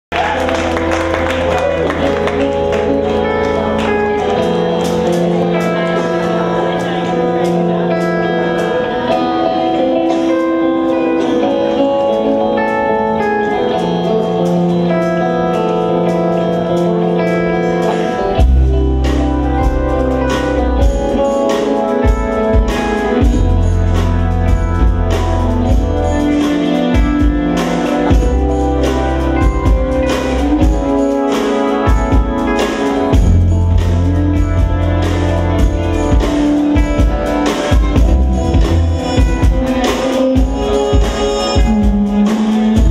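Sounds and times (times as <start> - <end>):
drum kit groove: 0.1 - 42.9
electric bass: 0.1 - 42.9
live jazz fusion band: 0.1 - 42.9.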